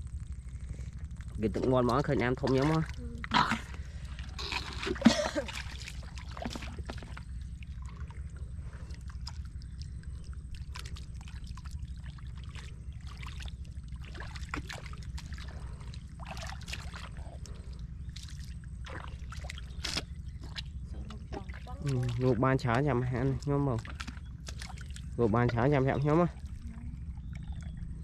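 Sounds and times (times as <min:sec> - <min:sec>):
steady low rumble: 0:00.0 - 0:28.0
small water splashes: 0:00.1 - 0:28.0
hands squelching in wet mud: 0:00.3 - 0:28.0.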